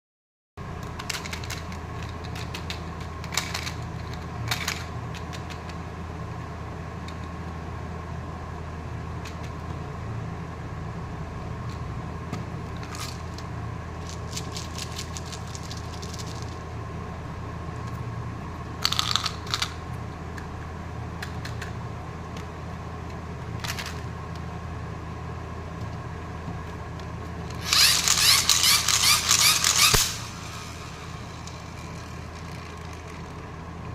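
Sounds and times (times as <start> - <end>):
steady low hum: 0.6 - 33.9.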